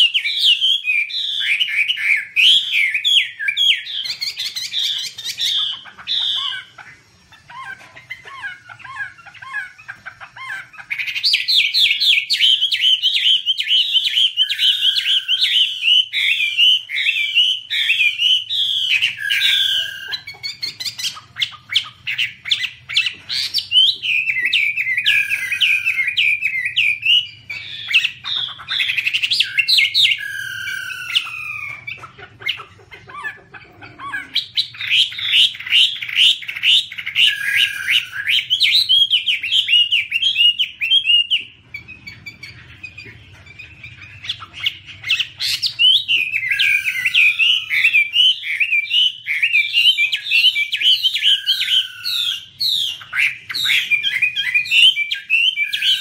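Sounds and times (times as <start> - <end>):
bird singing whistled song: 0.0 - 32.0, 34.0 - 56.0.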